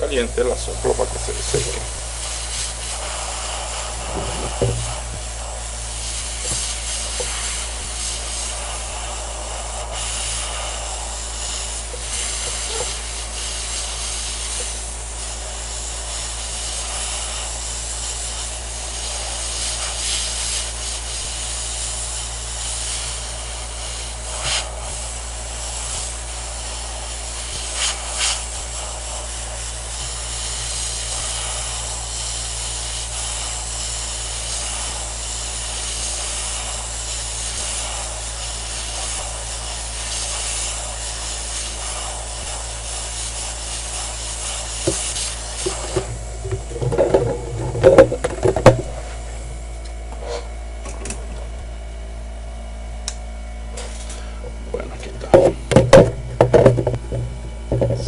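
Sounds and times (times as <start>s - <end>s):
hot air blower hissing: 0.0s - 58.0s.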